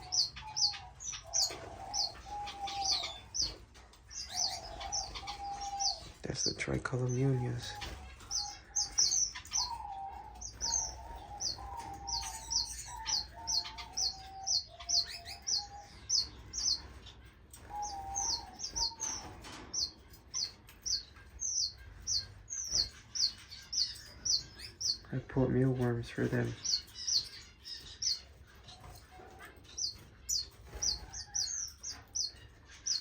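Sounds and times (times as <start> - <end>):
high bird chirps: 0.0 - 25.2, 26.1 - 33.0.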